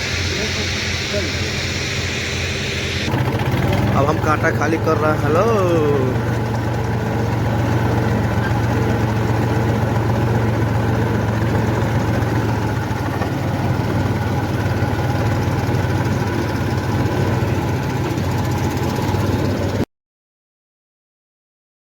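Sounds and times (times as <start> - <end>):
tractor diesel engine running: 0.0 - 19.8.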